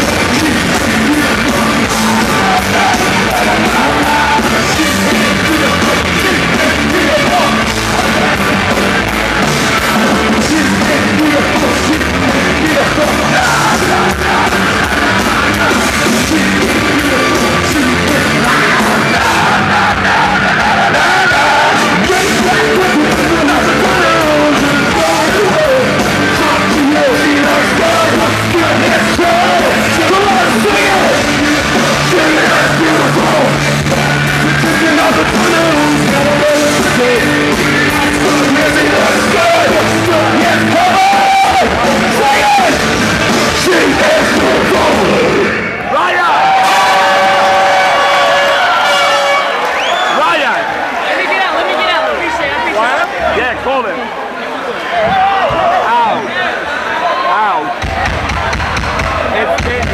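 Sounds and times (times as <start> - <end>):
rock band playing loudly: 0.0 - 53.9, 57.4 - 59.9.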